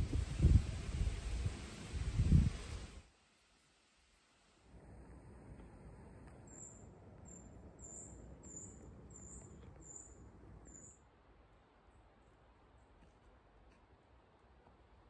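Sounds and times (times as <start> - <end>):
low outdoor hiss: 0.0 - 15.0.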